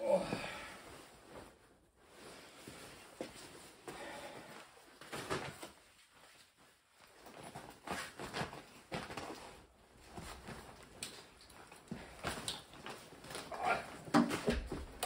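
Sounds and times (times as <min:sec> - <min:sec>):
clothing rustling: 0:00.0 - 0:15.0.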